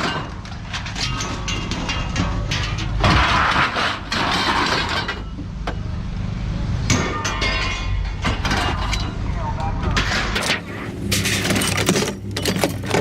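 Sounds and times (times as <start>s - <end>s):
scrap metal crashing onto a pile: 0.0s - 5.3s, 6.9s - 9.3s, 9.9s - 13.0s
metal clanks: 0.0s - 5.9s, 6.9s - 9.3s, 9.9s - 13.0s.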